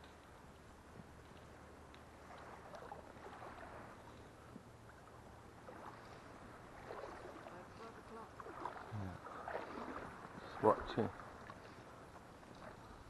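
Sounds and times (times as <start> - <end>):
shallow water sloshing: 0.0 - 13.0.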